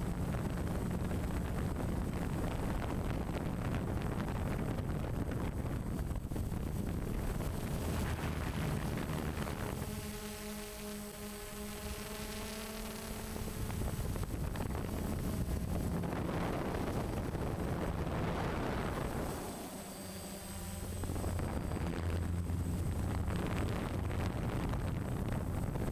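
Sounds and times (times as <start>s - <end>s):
drone propellers humming: 0.0s - 25.9s
wind rushing over microphone: 0.0s - 25.9s.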